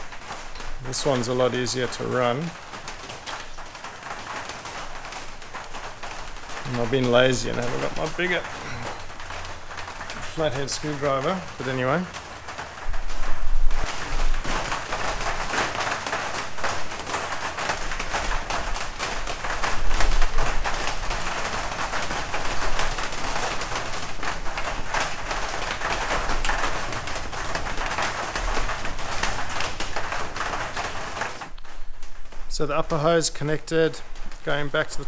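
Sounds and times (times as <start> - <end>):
heavy rain on roof: 0.0 - 35.0.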